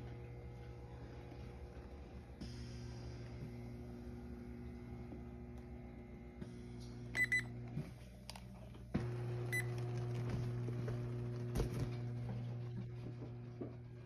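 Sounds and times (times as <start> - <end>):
massage chair motor hum: 0.0 - 14.0.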